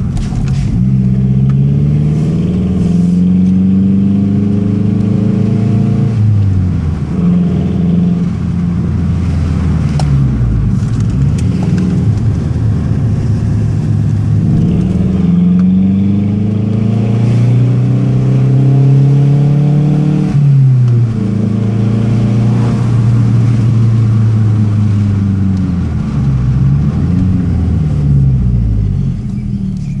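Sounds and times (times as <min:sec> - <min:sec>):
car engine revving while driving: 0:00.0 - 0:29.3.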